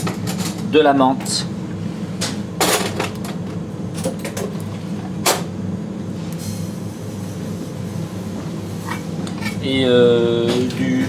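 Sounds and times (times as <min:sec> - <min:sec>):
kitchen low hum: 0:00.0 - 0:11.0.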